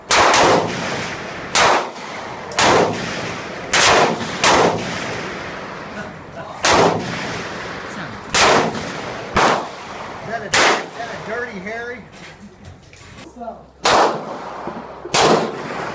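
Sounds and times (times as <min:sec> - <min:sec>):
gunshots with ringing echo: 0:00.0 - 0:06.0, 0:06.6 - 0:11.4, 0:13.8 - 0:15.9.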